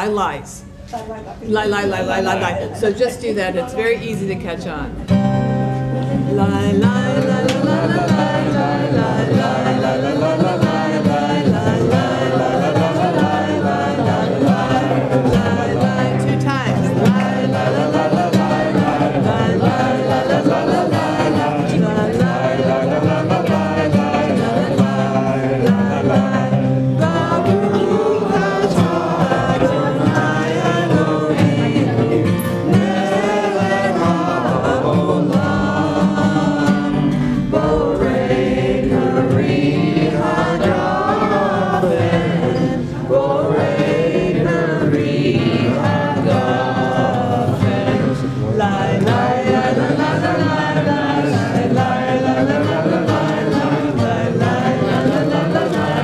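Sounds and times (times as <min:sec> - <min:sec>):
strummed acoustic guitar: 0:04.6 - 0:56.0
group singing: 0:05.1 - 0:56.0.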